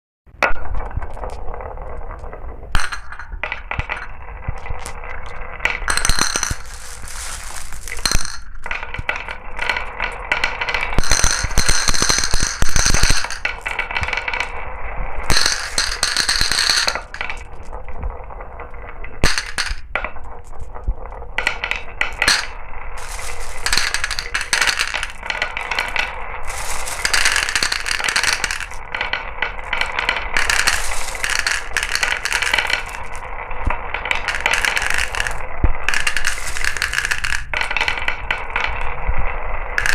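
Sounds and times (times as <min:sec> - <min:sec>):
marbles rattling down a marble run: 0:00.6 - 0:39.9.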